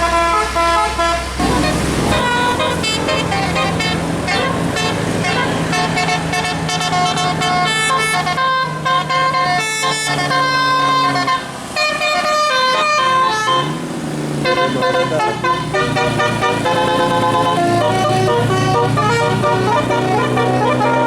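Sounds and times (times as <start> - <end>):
bus horn melody: 0.0 - 21.0
low hum of bus: 0.0 - 21.0.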